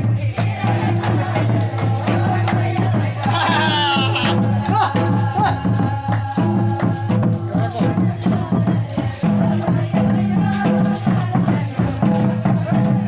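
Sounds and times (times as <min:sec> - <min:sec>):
drums beating steady rhythm: 0:00.0 - 0:13.0.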